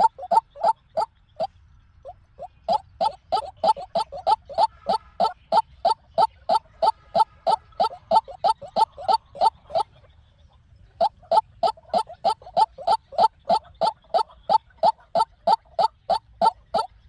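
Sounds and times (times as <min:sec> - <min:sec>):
bird calling croaking notes: 0:00.0 - 0:10.1, 0:10.9 - 0:17.0.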